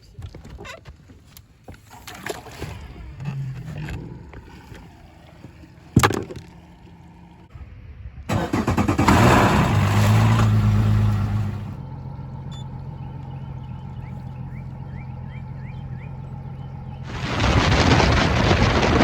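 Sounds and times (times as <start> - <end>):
outboard motor running: 1.0 - 7.5, 8.3 - 18.8.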